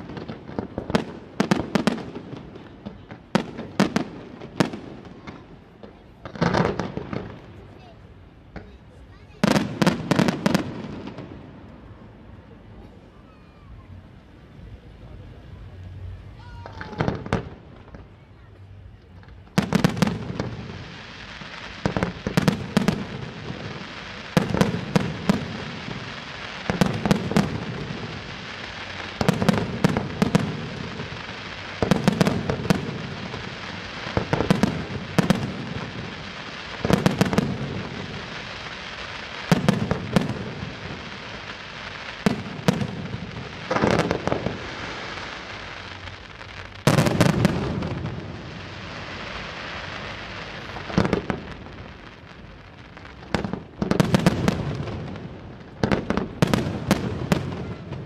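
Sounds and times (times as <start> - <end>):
firework bangs: 0.0 - 58.0
firework hiss and crackle: 0.0 - 58.0.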